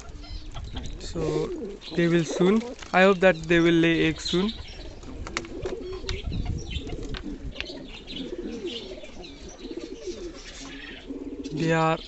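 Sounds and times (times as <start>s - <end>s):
pigeons chirping: 0.0s - 12.0s
pigeons cooing: 0.0s - 12.0s.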